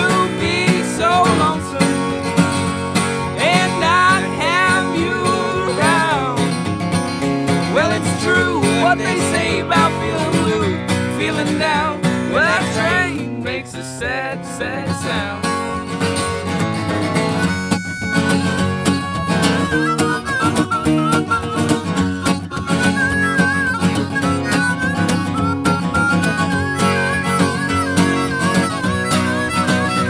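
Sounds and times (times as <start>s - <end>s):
acoustic guitar chords: 0.0s - 30.0s.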